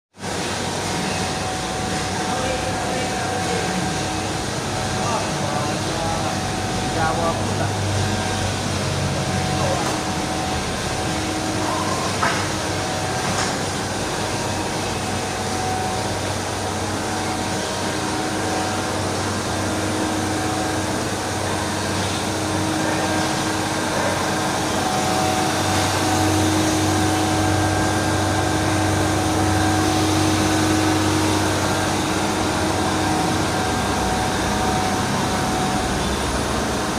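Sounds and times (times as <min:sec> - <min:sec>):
ice machine humming: 0:00.2 - 0:36.9.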